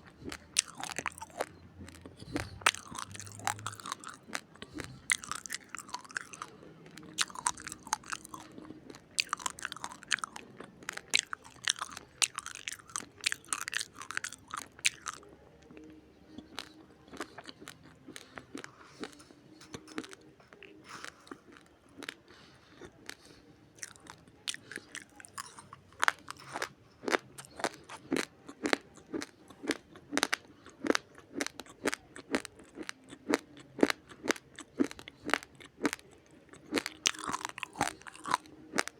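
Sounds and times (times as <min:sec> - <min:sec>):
raw rice crunched and chewed: 0:00.0 - 0:38.9.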